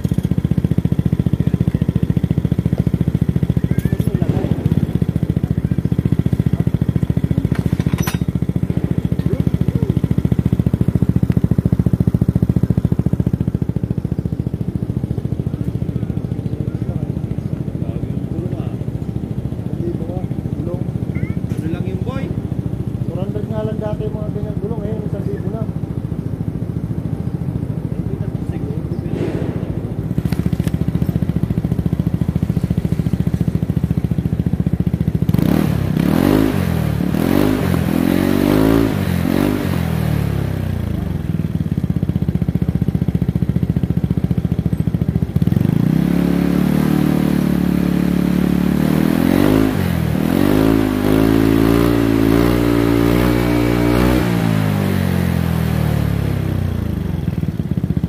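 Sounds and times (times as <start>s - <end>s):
scooter engine idling and revving: 0.0s - 58.0s.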